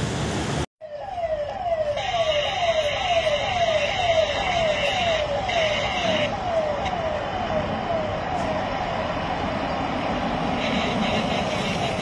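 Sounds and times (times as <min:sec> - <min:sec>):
siren wailing: 0:00.8 - 0:11.9
vehicles approaching: 0:01.4 - 0:12.0.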